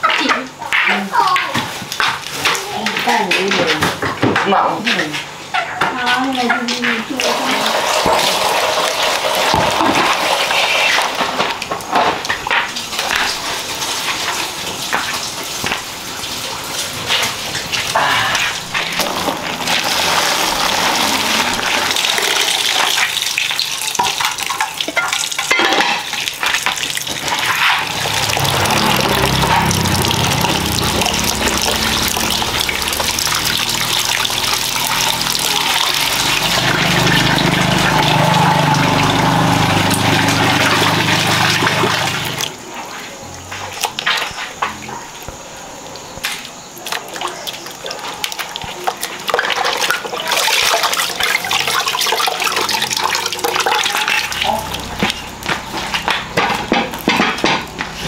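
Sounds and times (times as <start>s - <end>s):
tap water pouring into basin: 6.3s - 58.0s.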